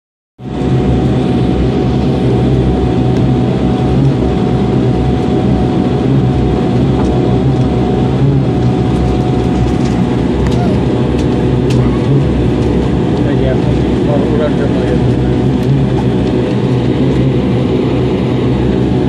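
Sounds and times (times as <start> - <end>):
aircraft engine and airflow: 0.4 - 19.0.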